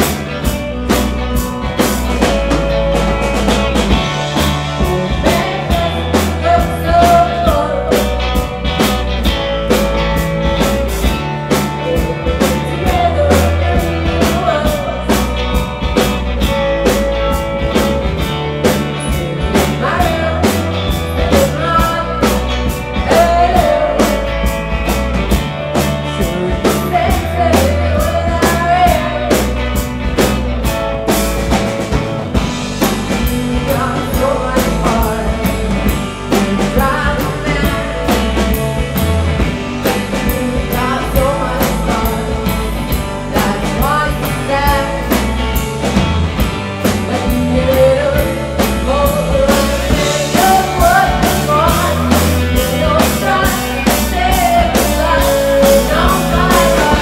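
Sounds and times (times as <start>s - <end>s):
drum kit beat: 0.0s - 57.0s
electric guitars: 0.0s - 57.0s
woman singing: 3.8s - 17.1s, 18.6s - 29.9s, 32.8s - 45.7s, 46.8s - 57.0s.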